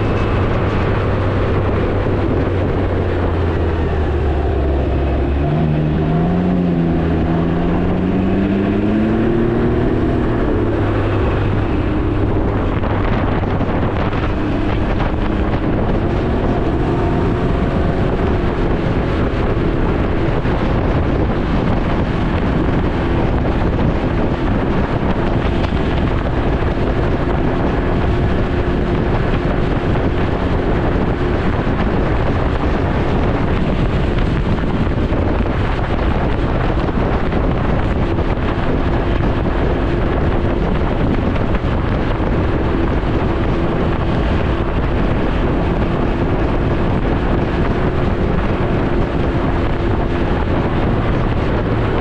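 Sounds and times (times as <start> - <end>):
engine humming: 0.0 - 52.0
wind over microphone: 0.0 - 52.0.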